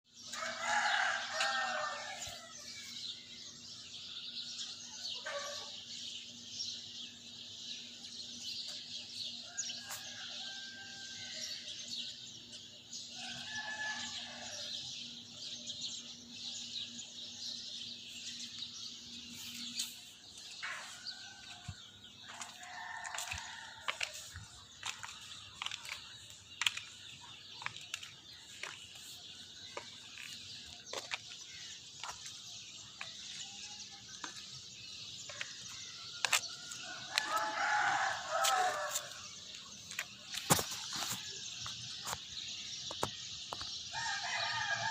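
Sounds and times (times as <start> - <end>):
small birds chirping: 0.0 - 44.8.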